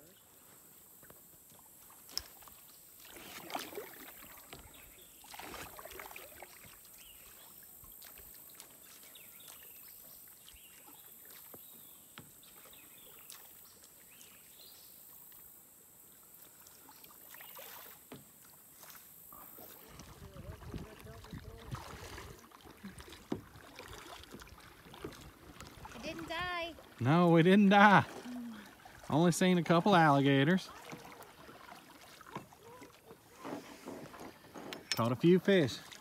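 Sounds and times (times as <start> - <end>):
paddle swishing through water: 0.0 - 36.0
water drips and splashes: 1.0 - 36.0.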